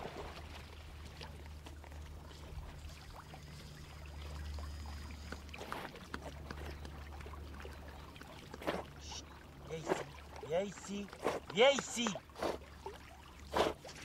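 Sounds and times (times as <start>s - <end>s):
water splashing and lapping: 0.0s - 14.0s.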